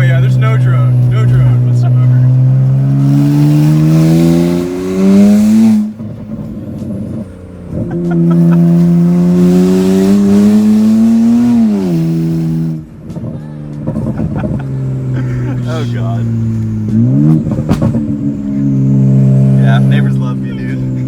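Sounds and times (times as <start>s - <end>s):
car engine accelerating raspy: 0.0s - 21.0s
exhaust crackle: 0.0s - 21.0s.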